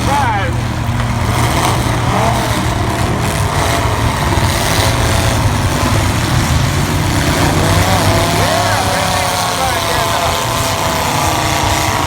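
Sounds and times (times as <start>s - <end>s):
car engines running and revving: 0.0s - 12.0s.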